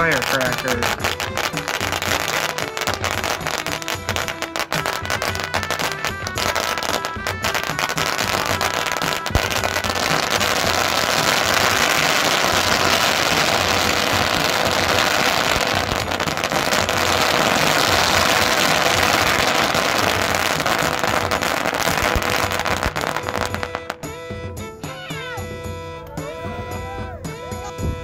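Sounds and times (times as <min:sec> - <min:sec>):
firecrackers crackling rattle: 0:00.0 - 0:24.2.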